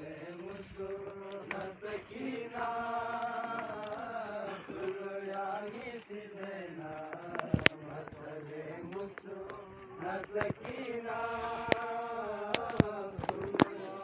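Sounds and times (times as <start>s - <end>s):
men chanting a lament: 0.0s - 14.0s.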